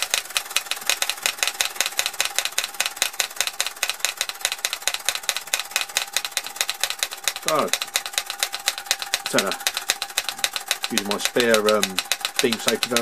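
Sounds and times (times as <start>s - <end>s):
toy steam hammers rattling: 0.0s - 13.0s.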